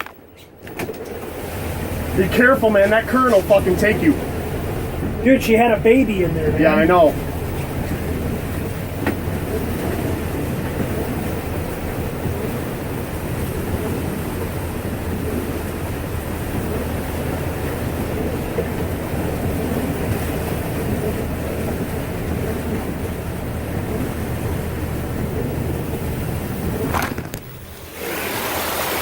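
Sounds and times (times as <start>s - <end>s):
motorhome engine rumbling: 0.0s - 29.0s.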